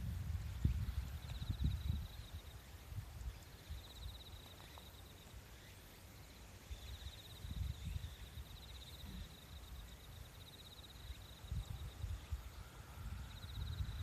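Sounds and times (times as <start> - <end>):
high pulsing insect trill: 0.0 - 14.0
low rumble of wind: 0.0 - 14.0.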